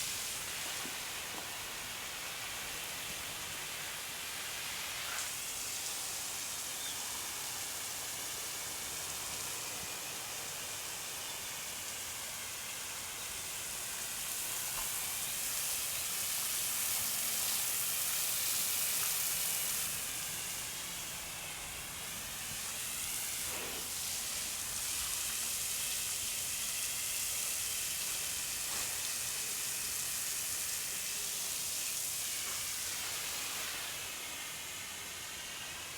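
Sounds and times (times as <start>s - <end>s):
garden hose spraying water: 0.0s - 35.9s.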